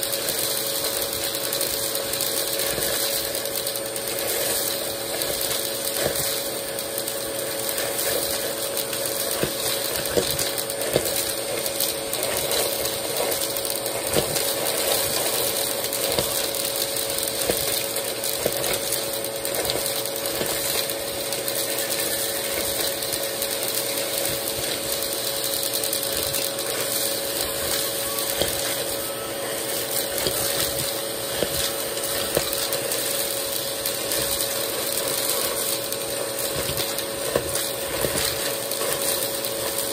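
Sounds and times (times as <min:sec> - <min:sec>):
small objects rattling in tube: 0:00.0 - 0:39.9
vacuum cleaner whining: 0:00.0 - 0:39.9.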